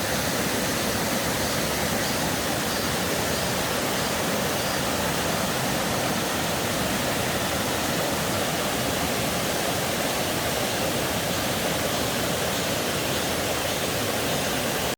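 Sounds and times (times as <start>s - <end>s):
stream rushing over rocks: 0.0s - 14.9s.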